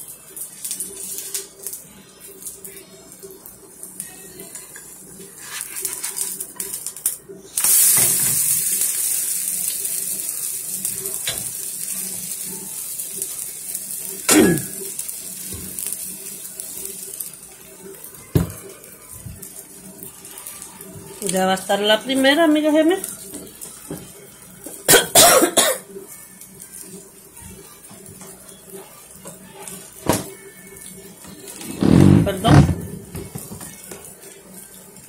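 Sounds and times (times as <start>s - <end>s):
pancake sizzling in oil: 0.0s - 35.0s.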